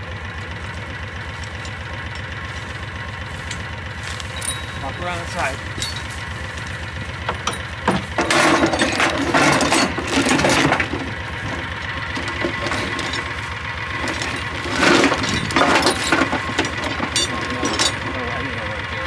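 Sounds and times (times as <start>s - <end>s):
engine idling: 0.0s - 19.0s
metal clanking and rattling: 1.3s - 19.0s.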